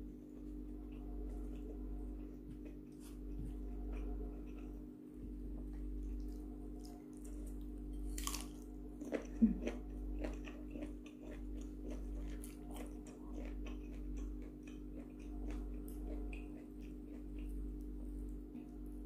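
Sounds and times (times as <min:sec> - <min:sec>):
chewing crunchy raw vegetables: 0:00.3 - 0:04.8, 0:05.7 - 0:19.0.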